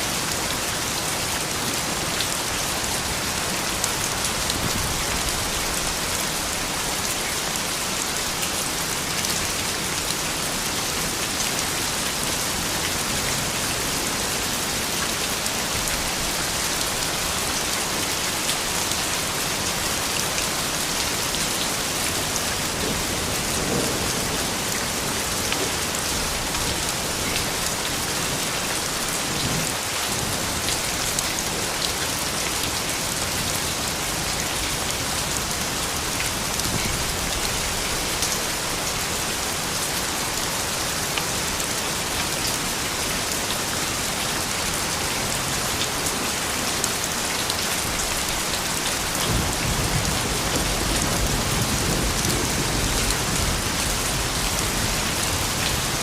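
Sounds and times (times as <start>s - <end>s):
rain pattering on surfaces: 0.1s - 56.0s.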